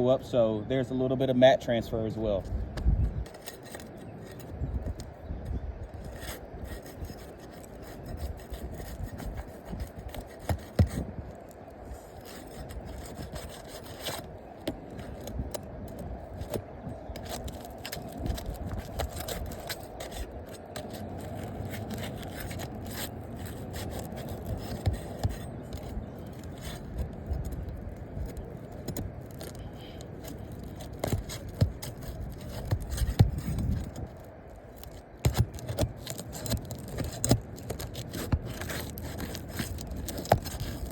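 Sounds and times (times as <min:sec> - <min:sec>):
roof shingles scraping: 0:05.9 - 0:40.9.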